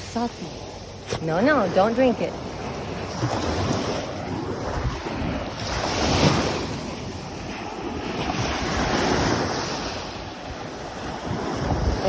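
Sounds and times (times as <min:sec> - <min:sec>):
ocean surf washing ashore: 0:00.0 - 0:12.0
wind buffeting microphone: 0:00.0 - 0:12.0.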